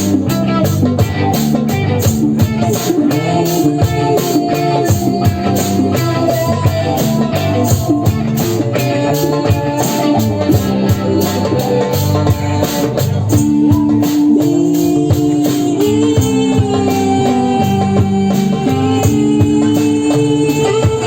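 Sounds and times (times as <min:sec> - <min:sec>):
drum kit beat: 0:00.0 - 0:21.0.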